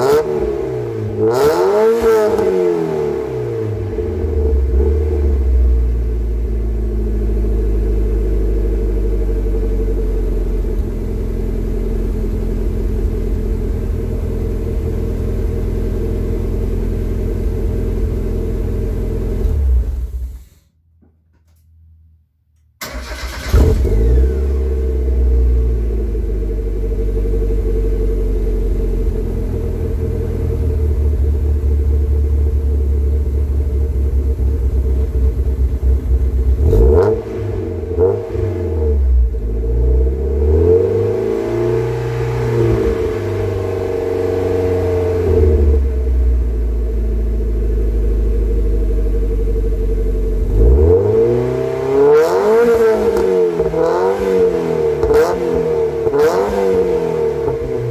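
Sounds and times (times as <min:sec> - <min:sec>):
car engine idling and revving: 0:00.0 - 0:20.6, 0:22.8 - 0:57.9.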